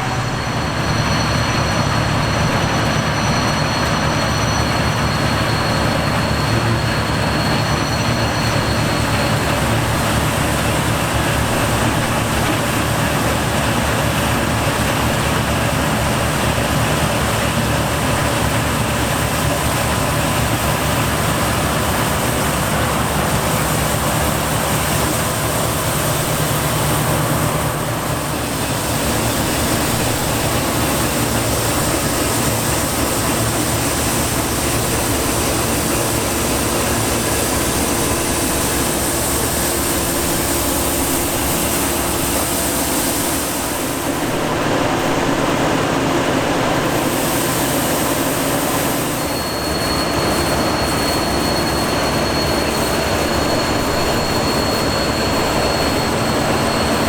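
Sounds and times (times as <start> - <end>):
harvest machinery running: 0.0 - 57.0
thin high whine: 0.0 - 57.0.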